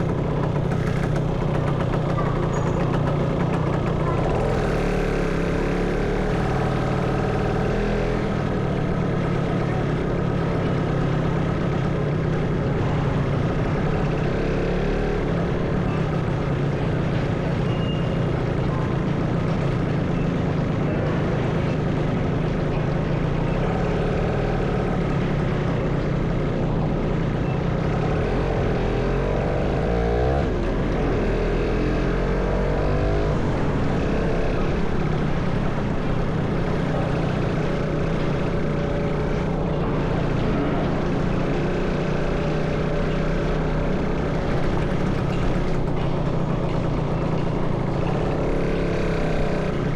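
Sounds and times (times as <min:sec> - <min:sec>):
motorcycle engine running: 0:00.0 - 0:49.9
road and traffic noise: 0:00.0 - 0:49.9.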